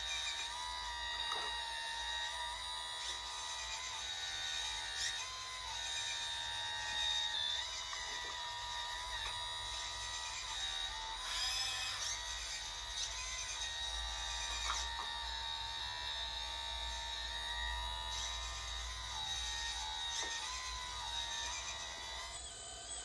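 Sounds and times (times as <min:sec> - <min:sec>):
hydraulic pump electric whine: 0:00.0 - 0:23.0.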